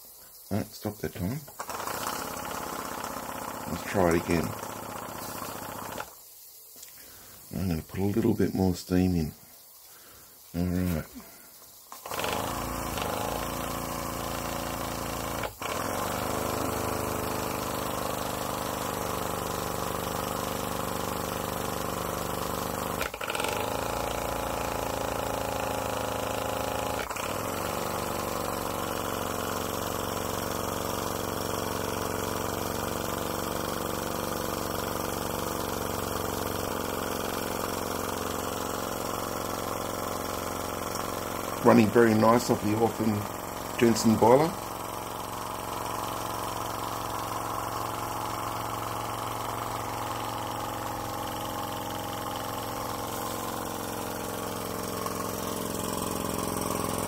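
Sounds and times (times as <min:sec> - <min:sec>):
miniature steam engine running: 0:00.0 - 0:06.2, 0:10.5 - 0:57.0.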